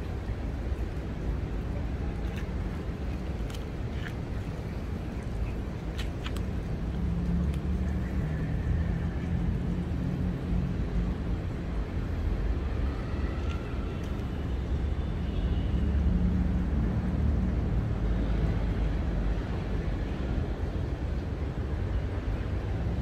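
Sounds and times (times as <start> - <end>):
low urban rumble: 0.0 - 23.0.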